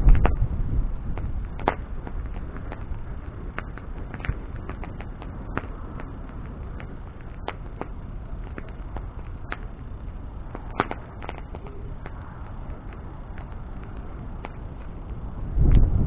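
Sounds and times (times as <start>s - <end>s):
bonfire crackling and popping: 0.0s - 16.0s
low rush of fire: 0.0s - 16.0s.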